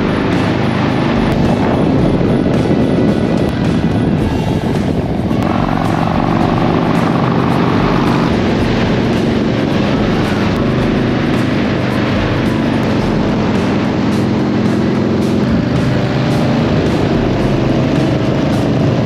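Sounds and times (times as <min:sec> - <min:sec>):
motorcycle engine running: 0:00.0 - 0:19.0
wind rushing: 0:00.0 - 0:19.0.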